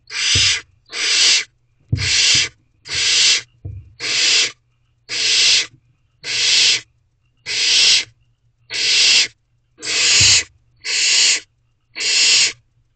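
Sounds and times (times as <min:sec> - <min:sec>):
owlets hissing begging calls: 0:00.1 - 0:06.8, 0:07.5 - 0:08.1, 0:08.7 - 0:11.4, 0:12.0 - 0:12.6.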